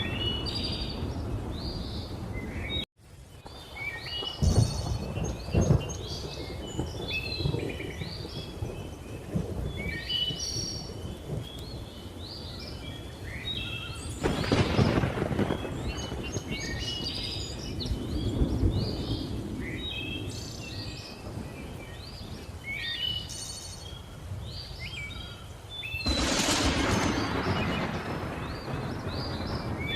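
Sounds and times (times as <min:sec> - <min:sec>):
thunder rumbling: 0:00.0 - 0:02.8, 0:03.4 - 0:13.0, 0:13.8 - 0:22.5, 0:26.0 - 0:29.9
faint rain hiss: 0:00.0 - 0:29.9.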